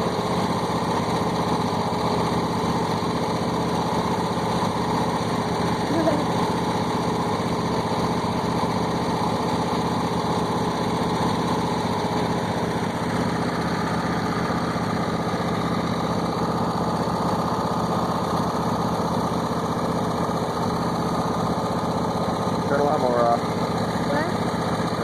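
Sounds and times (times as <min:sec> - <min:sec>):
riding lawn mower engine: 0:00.0 - 0:25.0.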